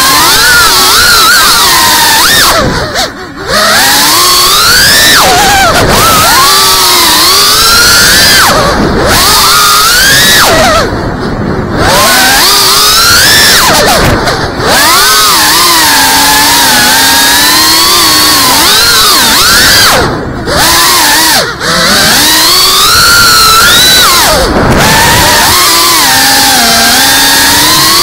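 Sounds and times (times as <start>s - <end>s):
drone motors buzzing: 0.0s - 28.0s.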